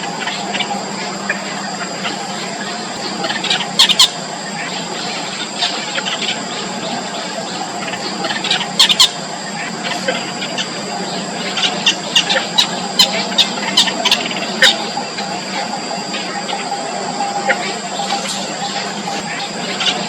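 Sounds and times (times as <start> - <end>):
nestling birds cheeping: 0.0 - 20.0.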